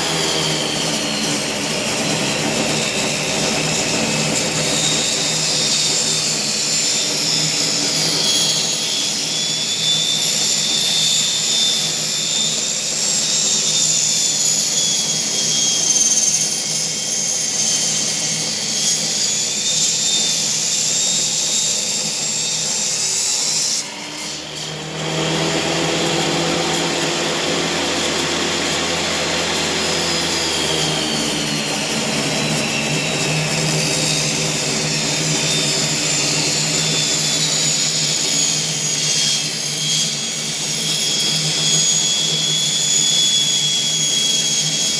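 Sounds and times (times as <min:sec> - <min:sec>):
power saw whining: 0:00.0 - 0:44.9.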